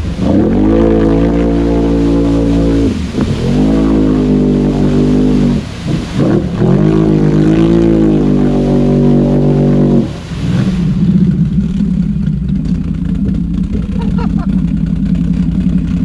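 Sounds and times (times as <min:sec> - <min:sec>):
atv engine revving: 0:00.0 - 0:16.0
tires churning mud: 0:00.0 - 0:16.0.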